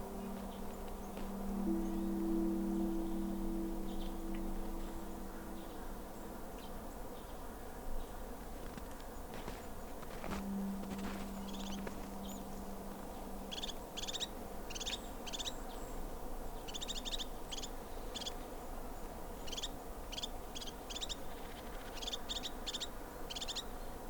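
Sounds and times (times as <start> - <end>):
small birds chirping: 0.0 - 7.4, 9.2 - 18.4, 19.4 - 23.8.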